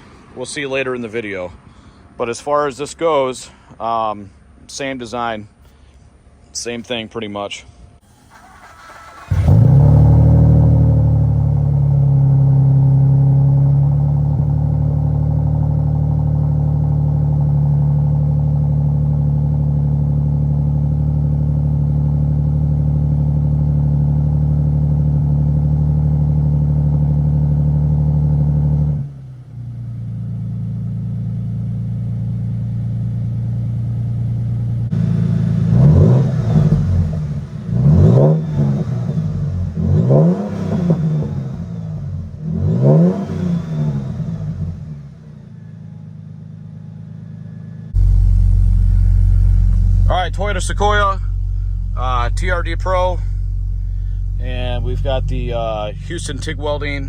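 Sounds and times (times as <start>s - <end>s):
car engine idling and revving: 8.1s - 57.0s.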